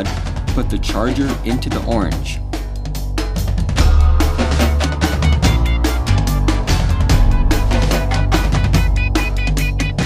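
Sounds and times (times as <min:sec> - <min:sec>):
music with drums and bass: 0:00.0 - 0:10.0.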